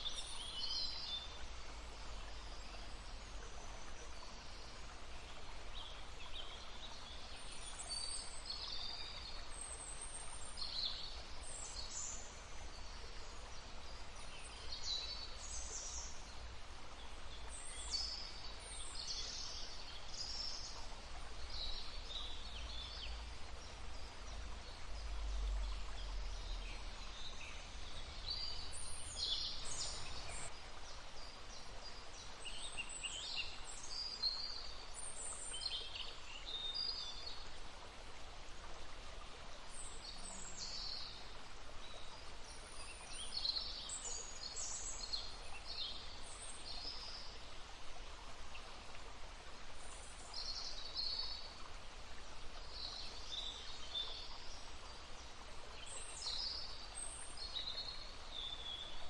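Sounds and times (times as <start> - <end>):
babbling stream: 0.0 - 59.0.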